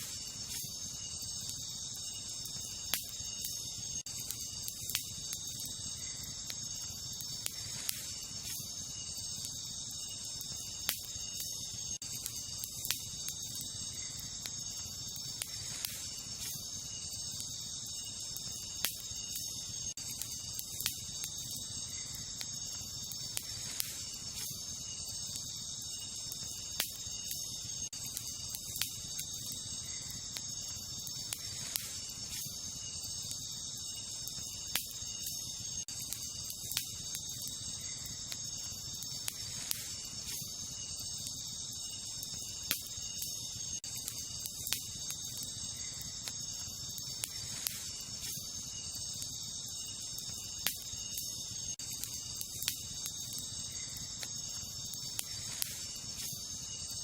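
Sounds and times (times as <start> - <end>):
campfire crackling: 0.0 - 57.0
night insects chorus: 0.0 - 57.0.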